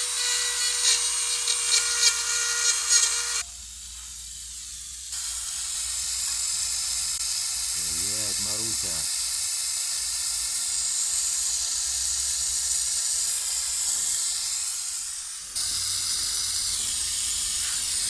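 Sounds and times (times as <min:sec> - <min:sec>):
gas torch hissing: 0:03.0 - 0:18.0.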